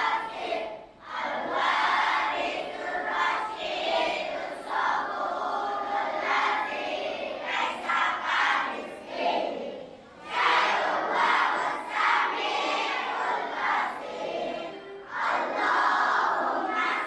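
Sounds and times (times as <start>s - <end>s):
children chanting in unison: 0.0s - 17.0s.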